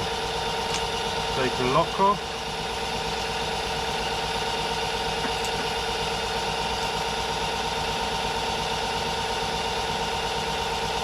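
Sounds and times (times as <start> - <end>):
metal lathe machine hum: 0.0 - 11.0.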